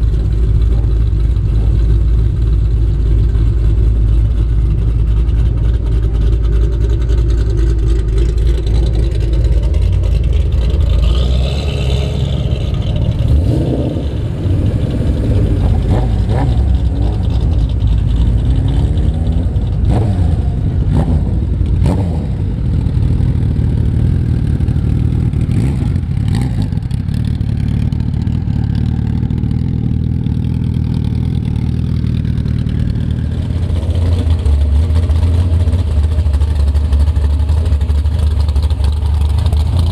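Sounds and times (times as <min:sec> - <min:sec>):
car engines rumbling past slowly: 0:00.0 - 0:39.9.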